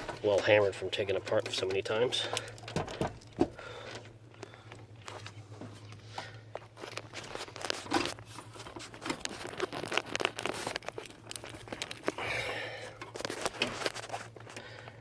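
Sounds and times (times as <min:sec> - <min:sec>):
steady low hum: 0:00.0 - 0:15.0
wiring and plastic connector rustling: 0:00.0 - 0:15.0.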